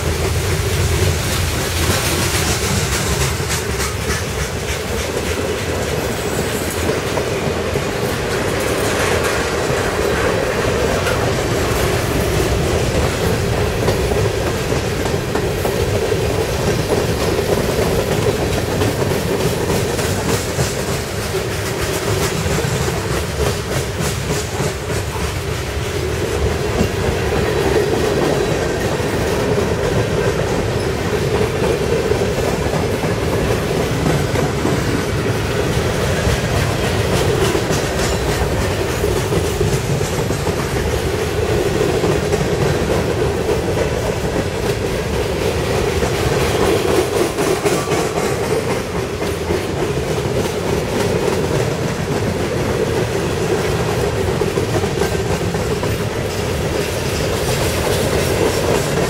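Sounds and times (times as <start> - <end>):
clickety-clack over rail joints: 0.0 - 59.0
steel wheels rumbling on rails: 0.0 - 59.0.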